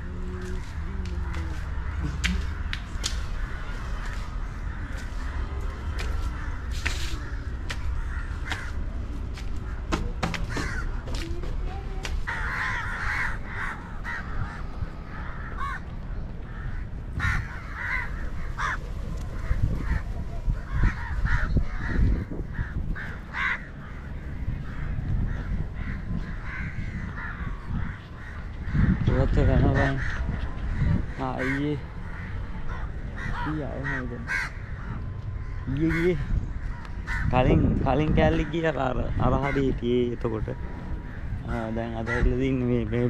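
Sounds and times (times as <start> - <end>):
crows cawing: 0.0 - 11.3, 12.0 - 43.0
steady low rumble: 0.0 - 43.0.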